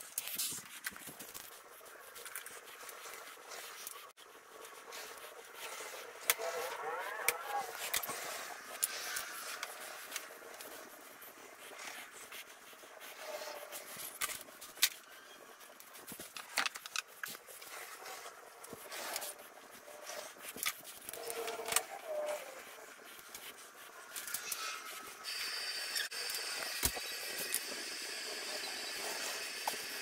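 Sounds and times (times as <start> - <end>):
rustling: 0.0 - 27.8.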